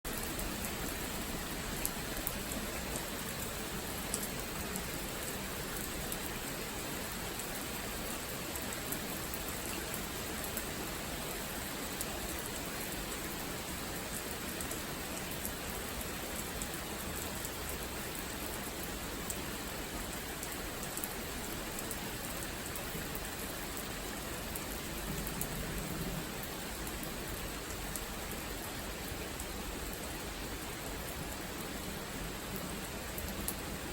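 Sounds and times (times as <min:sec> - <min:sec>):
raindrops ticking close by: 0:00.1 - 0:33.9
steady rain falling: 0:00.1 - 0:33.9.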